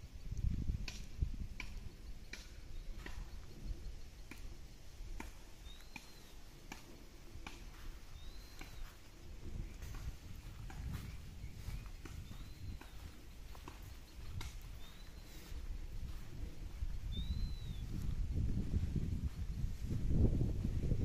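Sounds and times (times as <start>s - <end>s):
footsteps walking: 2.9s - 21.0s.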